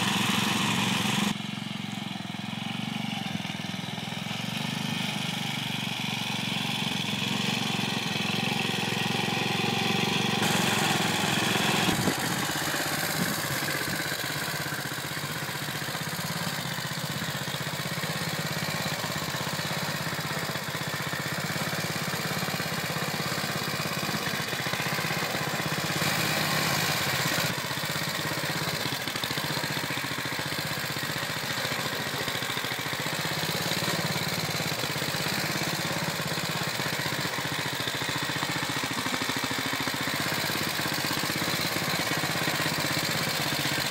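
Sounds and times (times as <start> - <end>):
small single-cylinder engine running: 0.0 - 43.9.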